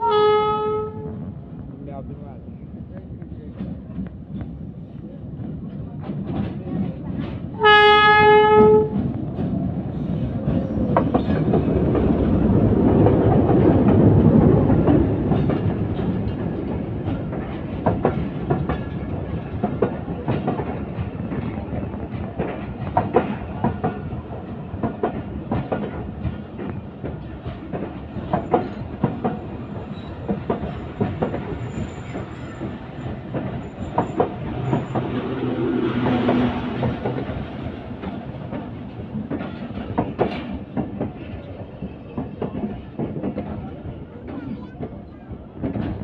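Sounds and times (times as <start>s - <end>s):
train wheels clacking over rail joints: 3.0s - 46.0s.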